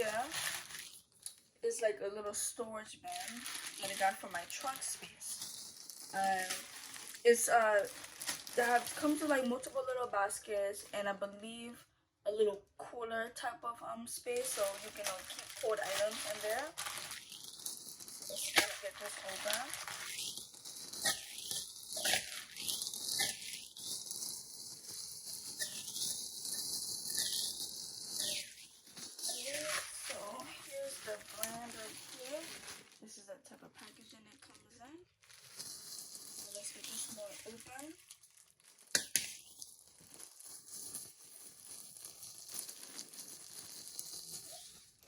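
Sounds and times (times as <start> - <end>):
packaging rustling and crinkling: 0.0 - 1.4, 3.0 - 10.0, 14.3 - 33.1, 33.8 - 45.0.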